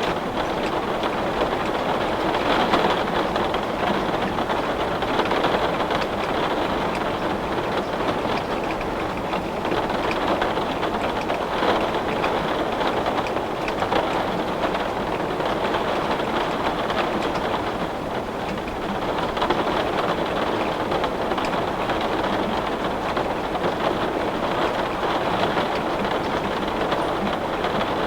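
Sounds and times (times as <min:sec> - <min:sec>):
heavy rain on window glass: 0:00.0 - 0:28.0.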